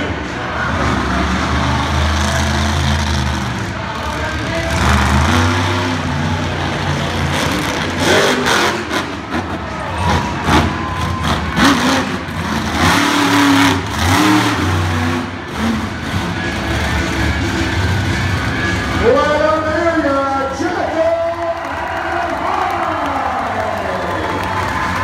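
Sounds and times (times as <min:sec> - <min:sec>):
monster truck engine revving: 0:00.0 - 0:20.6.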